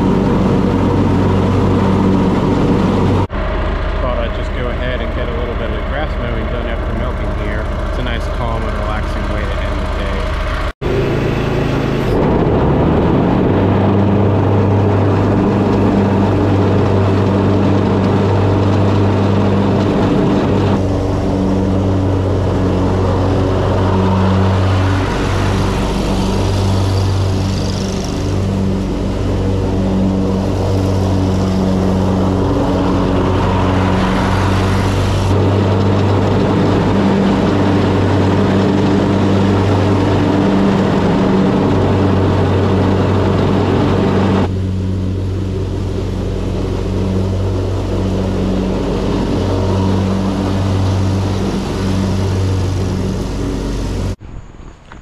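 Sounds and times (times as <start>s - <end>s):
mower engine running: 0.0s - 54.2s.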